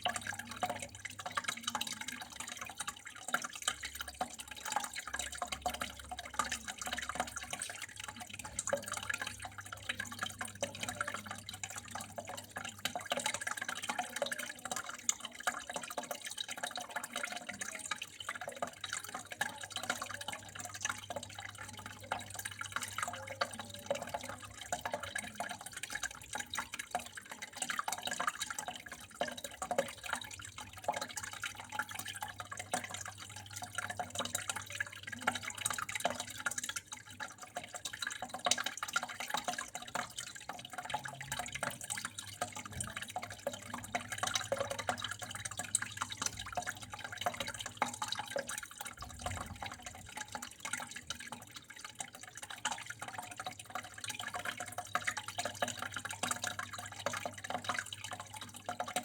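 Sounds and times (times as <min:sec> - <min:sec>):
water dripping and splashing: 0:00.0 - 0:59.0
water flowing and trickling: 0:00.0 - 0:59.0.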